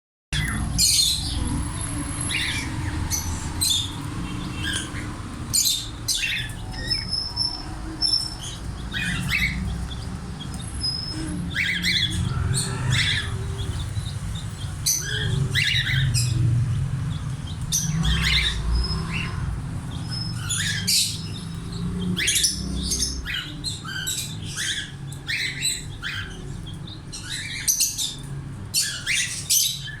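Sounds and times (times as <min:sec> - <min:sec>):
parrots chirping and squawking: 0:00.4 - 0:30.0.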